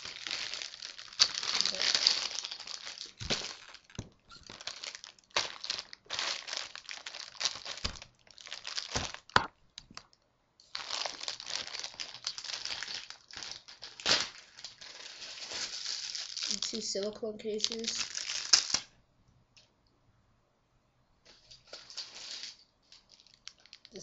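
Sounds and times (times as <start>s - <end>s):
plastic packaging crinkling: 0.0s - 18.9s, 21.3s - 24.0s.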